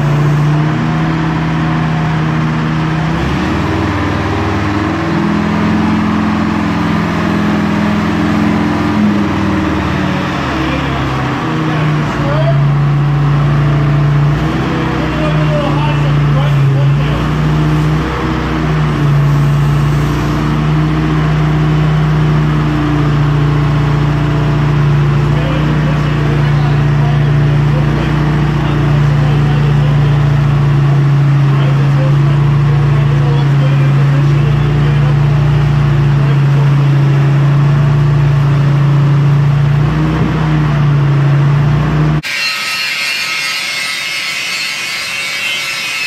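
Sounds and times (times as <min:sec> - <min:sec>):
forklift engine hum: 0:00.0 - 0:42.3.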